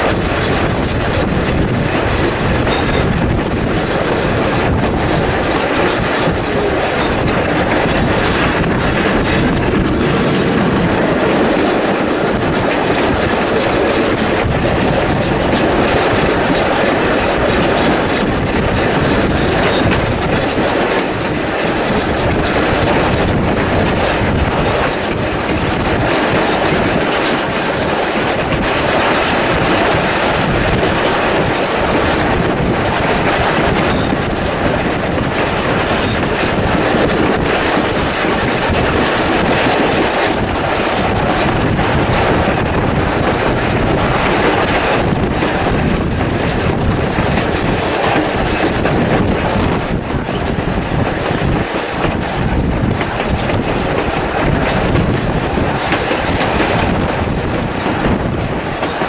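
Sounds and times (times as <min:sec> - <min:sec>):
train running rumble: 0:00.0 - 0:59.0
train wheels clicking over rail joints: 0:00.0 - 0:59.0.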